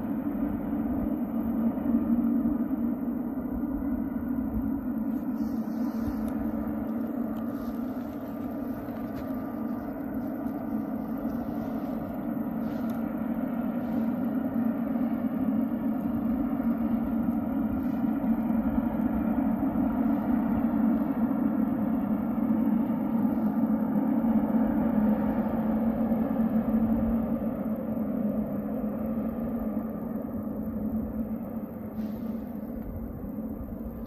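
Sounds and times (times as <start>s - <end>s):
distant jet engines humming: 0.0s - 34.0s.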